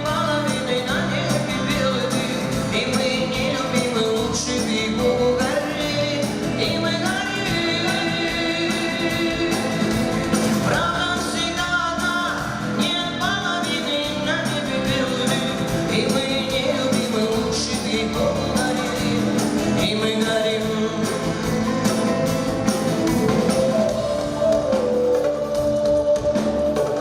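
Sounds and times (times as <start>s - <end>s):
live pop-rock band: 0.0s - 27.0s
wavering melodic lead line: 0.0s - 27.0s.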